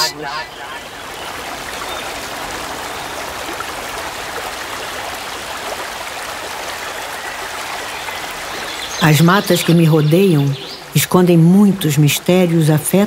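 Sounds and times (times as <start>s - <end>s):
river babbling over rocks: 0.0s - 12.4s.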